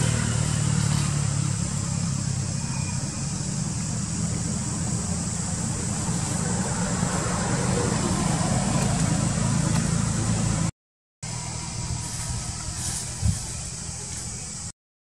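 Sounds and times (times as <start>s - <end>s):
low engine-like drone: 0.0s - 14.7s.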